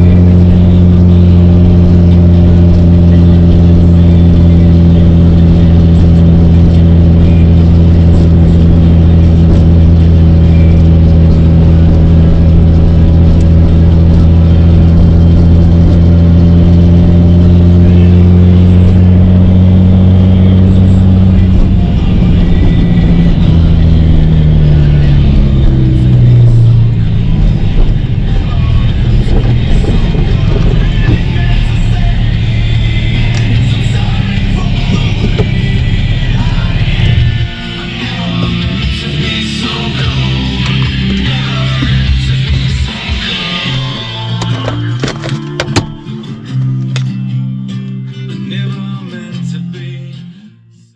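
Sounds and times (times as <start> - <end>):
car engine cruising: 0.0 - 50.4.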